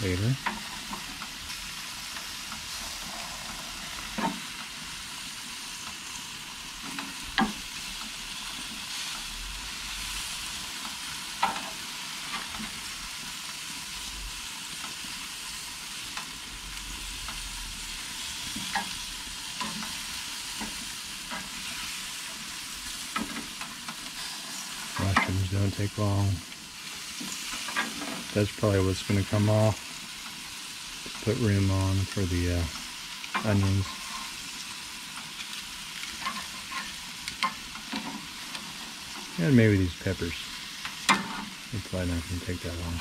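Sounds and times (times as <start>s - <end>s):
kabobs sizzling on a grill: 0.0s - 43.0s.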